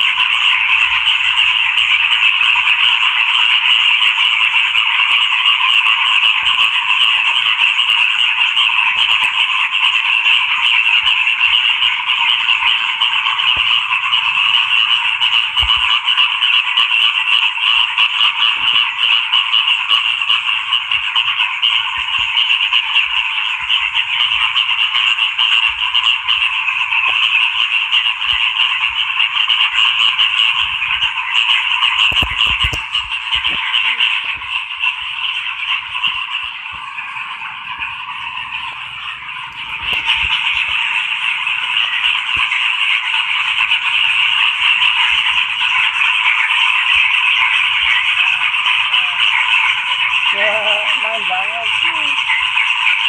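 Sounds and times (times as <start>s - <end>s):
frogs croaking: 0.0s - 53.0s.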